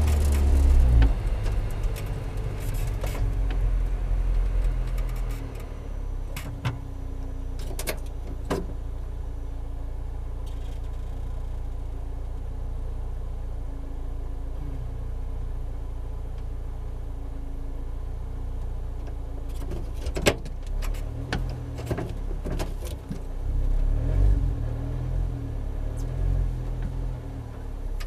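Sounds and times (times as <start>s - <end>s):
car engine idling: 0.0s - 23.8s.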